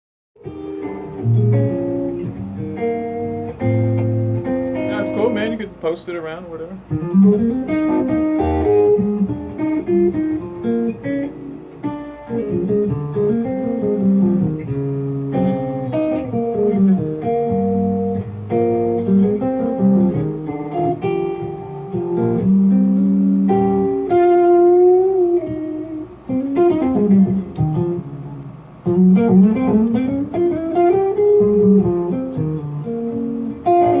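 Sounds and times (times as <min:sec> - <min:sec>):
solo guitar with bent notes: 0:00.4 - 0:34.0.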